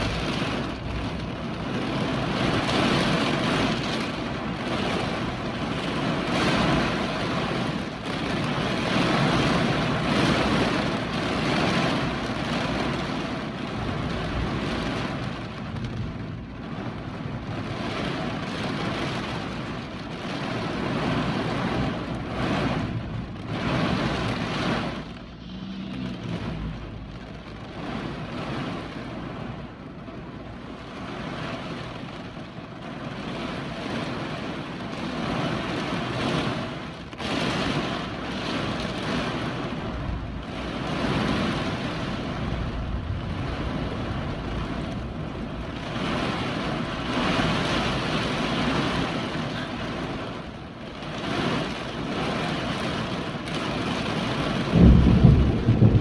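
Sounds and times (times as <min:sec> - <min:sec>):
wind buffeting microphone: 0:00.0 - 0:25.2, 0:26.0 - 0:56.0
hurricane wind gusting: 0:00.0 - 0:56.0
rain: 0:00.0 - 0:56.0.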